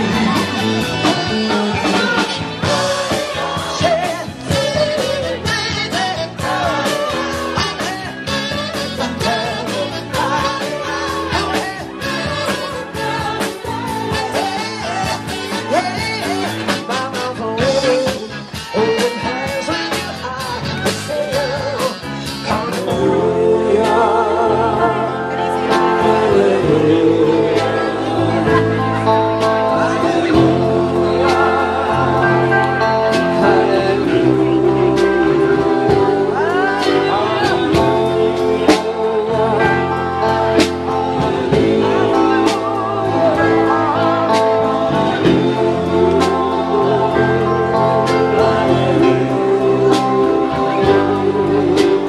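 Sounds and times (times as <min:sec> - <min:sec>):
live band playing: 0:00.0 - 0:52.0
person singing: 0:00.0 - 0:52.0.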